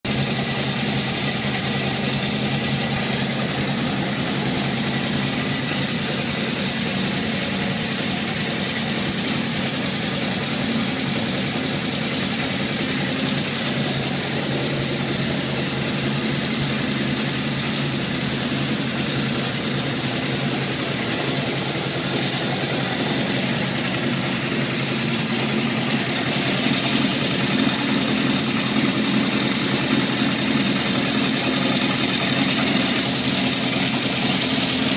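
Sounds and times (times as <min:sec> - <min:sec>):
motorcycle engine idling with rattle: 0:00.0 - 0:34.9.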